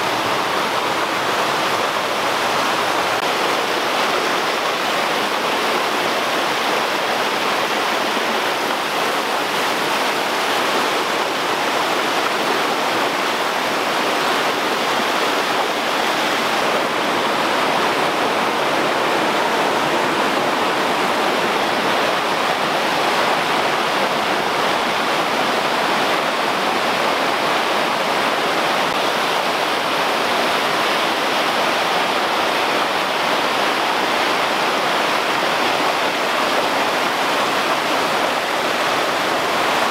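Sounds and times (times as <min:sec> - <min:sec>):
creek water cascading over boulders: 0:00.0 - 0:39.9.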